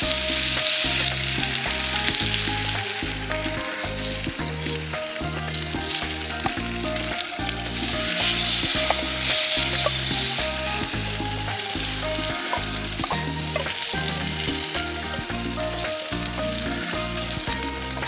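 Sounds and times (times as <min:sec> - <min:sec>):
background music with low notes: 0:00.0 - 0:18.0
food sizzling in frying pan: 0:00.0 - 0:18.0.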